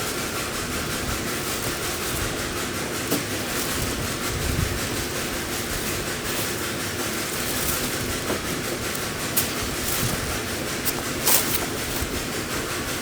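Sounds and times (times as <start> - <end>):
compressed air rushing hiss: 0.0 - 13.0.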